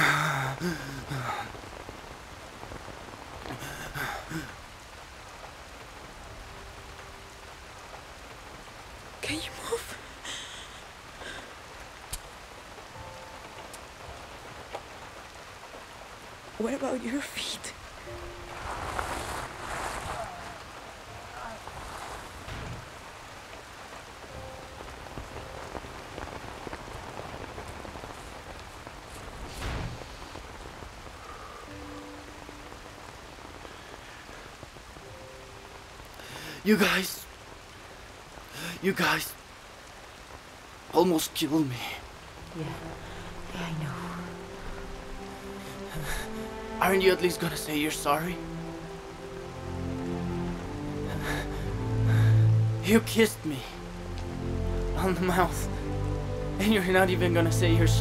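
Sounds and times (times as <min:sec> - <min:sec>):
heavy rain on wet ground: 0:00.0 - 0:58.0.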